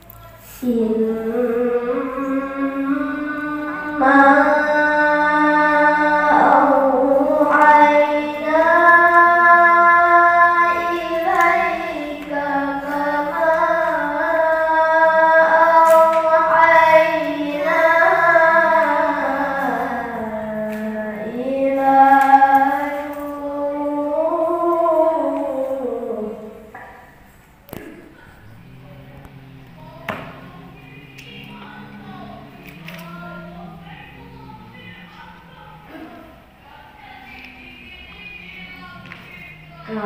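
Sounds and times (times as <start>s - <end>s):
person reciting melodically: 0.0s - 40.0s.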